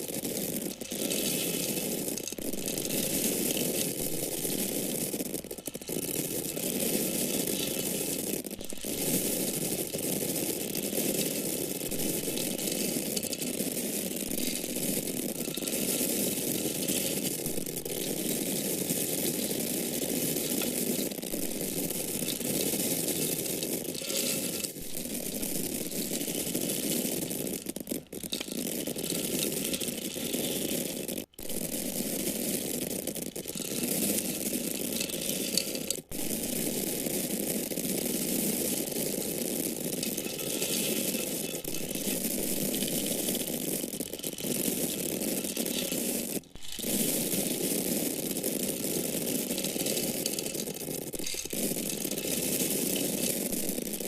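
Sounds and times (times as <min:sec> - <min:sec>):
grain falling in a stream: 0:00.0 - 0:54.0.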